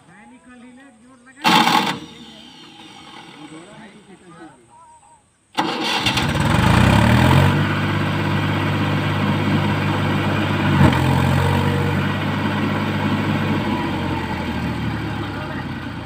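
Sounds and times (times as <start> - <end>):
diesel tractor engine revving: 1.4 - 4.1, 5.6 - 16.0.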